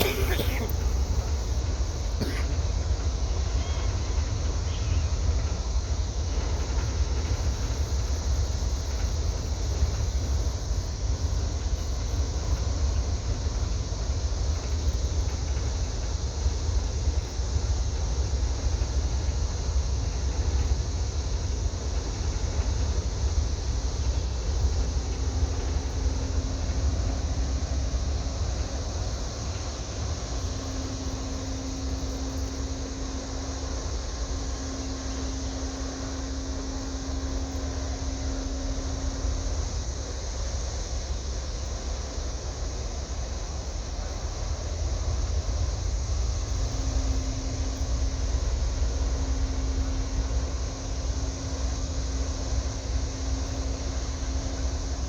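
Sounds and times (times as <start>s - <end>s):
boat engines rumbling: 0.0s - 55.0s
faint steady hum: 0.0s - 55.0s.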